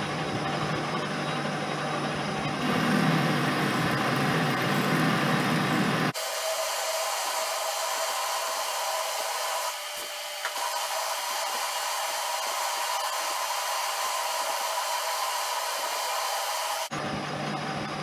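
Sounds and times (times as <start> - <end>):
lathe drilling whir and hiss: 2.6 - 17.7.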